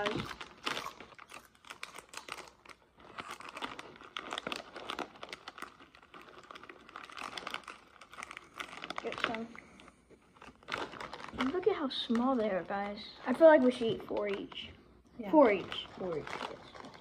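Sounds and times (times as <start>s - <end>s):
foil snack bag crinkling: 0.0s - 14.7s, 15.3s - 17.0s.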